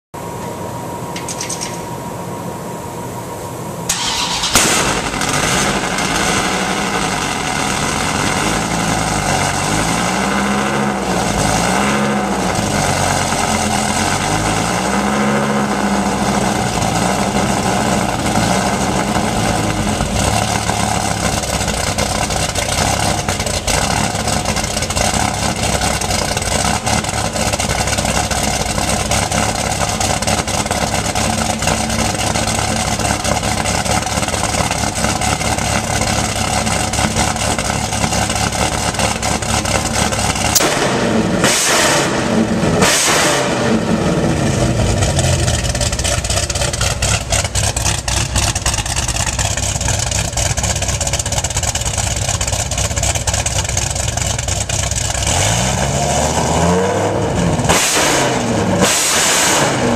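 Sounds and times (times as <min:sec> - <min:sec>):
car engine revving and idling: 0:03.9 - 0:59.9
sports car engine starting: 0:03.9 - 0:59.9.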